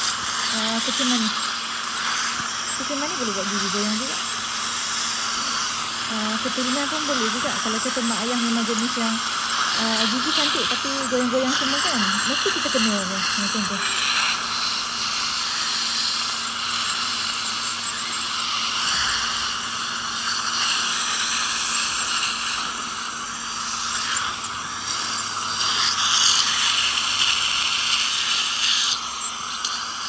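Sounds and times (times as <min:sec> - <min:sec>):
suction and water spray hiss: 0:00.0 - 0:30.0.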